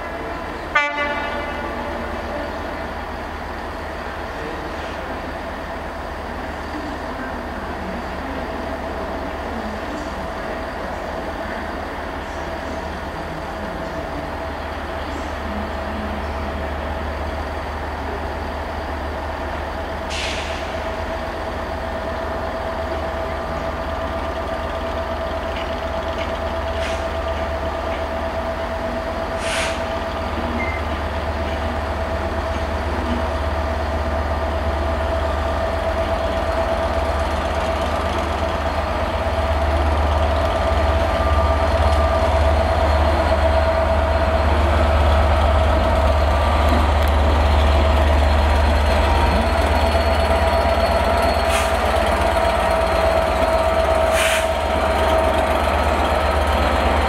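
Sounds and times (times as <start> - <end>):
diesel locomotive rumble and whine: 0.0 - 57.0.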